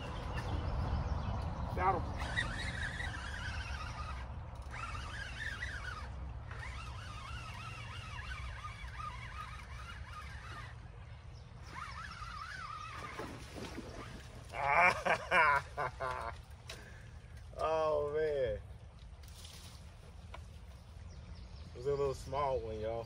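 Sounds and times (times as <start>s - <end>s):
birds singing: 0.0s - 18.8s, 19.9s - 23.0s.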